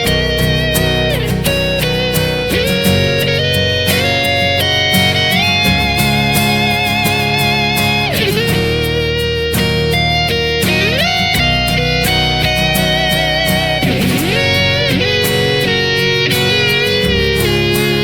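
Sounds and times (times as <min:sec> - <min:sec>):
electric guitar with vibrato: 0:00.0 - 0:18.0
steady beat: 0:00.0 - 0:18.0.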